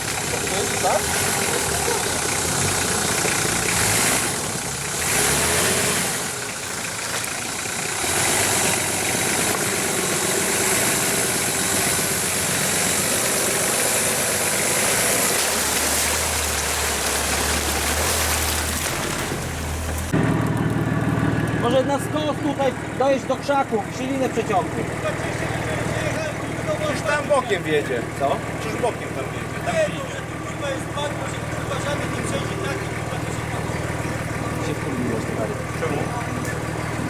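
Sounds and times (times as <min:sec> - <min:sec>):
engine revving under load: 0:00.0 - 0:37.0.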